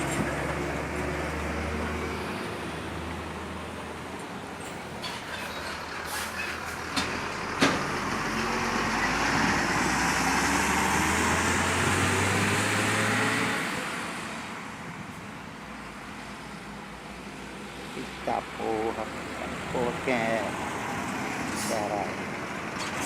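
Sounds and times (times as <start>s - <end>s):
diesel truck driving past: 0.0s - 15.1s, 15.7s - 23.0s.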